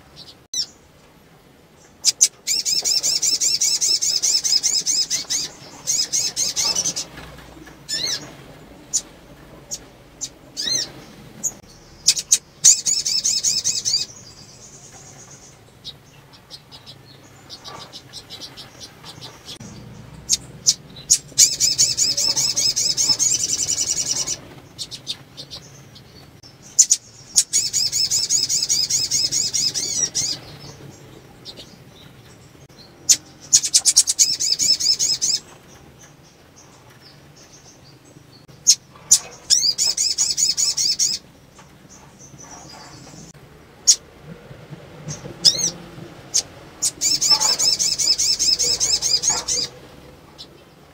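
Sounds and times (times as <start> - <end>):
bird twittering calls: 0.0 - 0.9, 1.8 - 44.0, 45.0 - 50.9.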